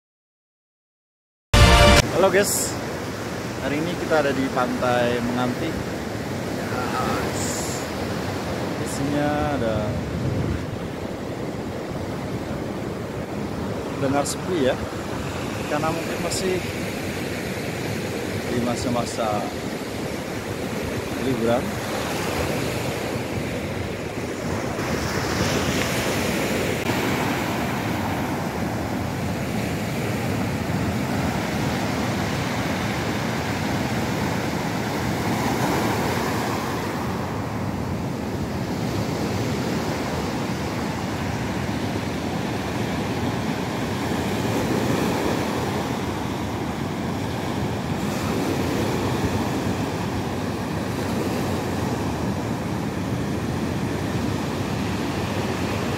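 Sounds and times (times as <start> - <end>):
ocean waves breaking on beach: 1.6 - 55.9.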